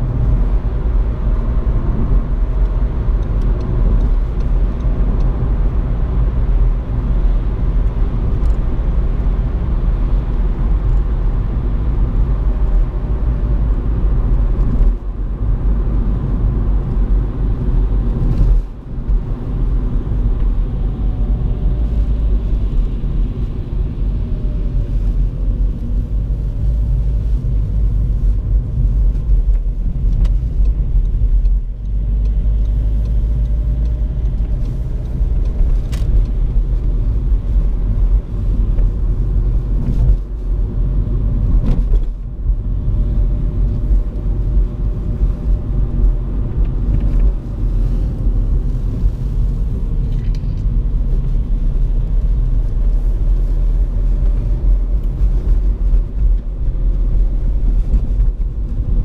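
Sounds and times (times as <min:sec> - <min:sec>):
engine and road rumble: 0:00.0 - 0:59.0
tyre noise on wet road: 0:00.0 - 0:59.0.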